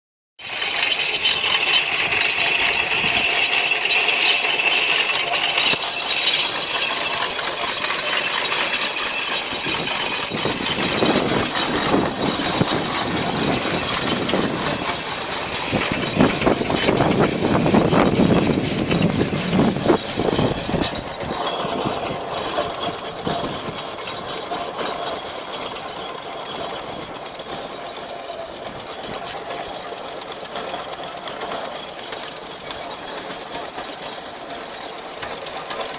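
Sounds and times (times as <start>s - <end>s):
rapid mechanical clatter: 0.4s - 35.9s
steam engine hissing: 0.4s - 35.9s.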